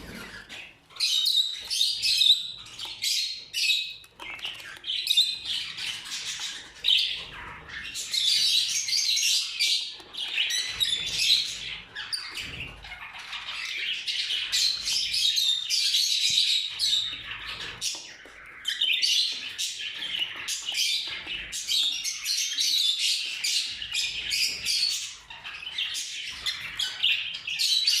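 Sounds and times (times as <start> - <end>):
parakeets calling: 0.0 - 28.0.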